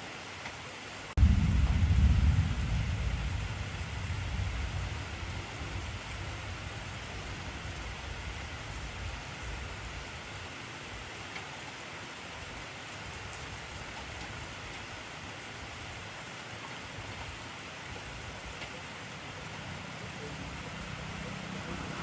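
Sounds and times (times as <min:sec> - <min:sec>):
heavy rain falling: 0:00.2 - 0:22.0.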